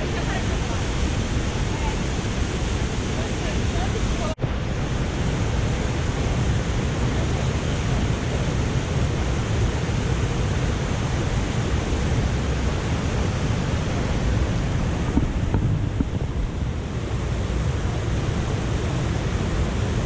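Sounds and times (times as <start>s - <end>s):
waterfall and rapids rushing: 0.0s - 20.0s.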